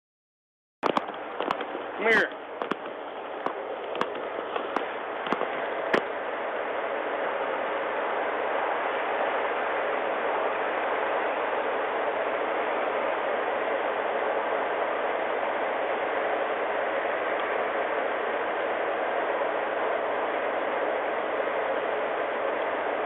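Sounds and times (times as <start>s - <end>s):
static hiss: 0.8s - 23.0s.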